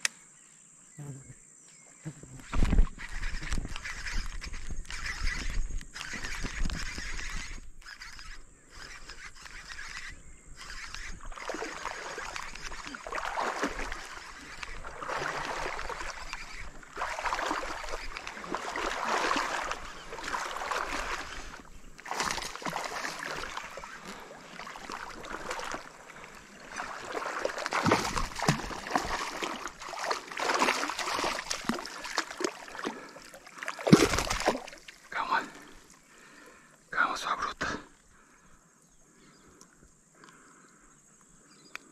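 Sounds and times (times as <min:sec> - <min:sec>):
water plants rustling: 0:02.4 - 0:36.6
fish splashing in shallow water: 0:02.5 - 0:36.8.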